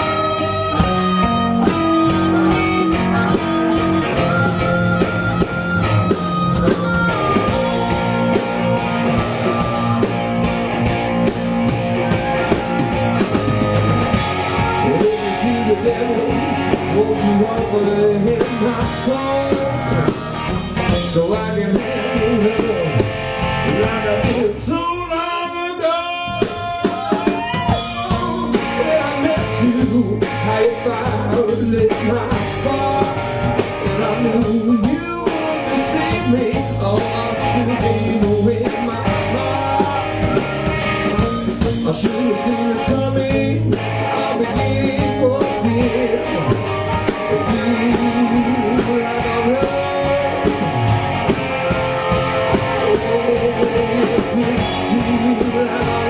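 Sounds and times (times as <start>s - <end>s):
harmonica wailing bending notes: 0.0s - 24.4s, 26.4s - 31.6s, 32.3s - 56.0s
electric guitar: 0.0s - 24.9s, 25.8s - 56.0s
bass guitar: 0.0s - 56.0s
drums: 0.0s - 56.0s.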